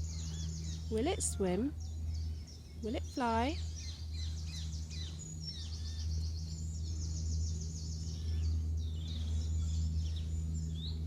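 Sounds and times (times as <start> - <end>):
low background hum: 0.0 - 11.0
songbirds singing: 0.0 - 11.0.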